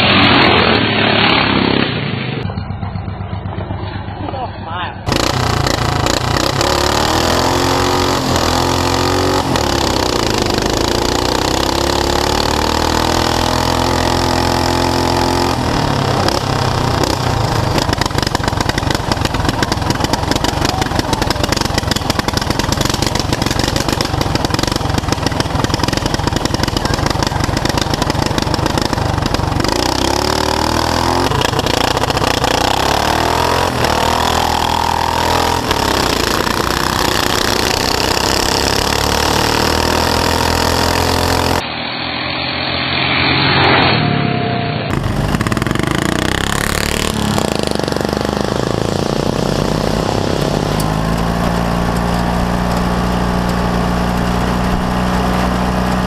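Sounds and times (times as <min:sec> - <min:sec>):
lawn tractor engine running: 0:02.3 - 0:41.7, 0:44.9 - 0:56.0.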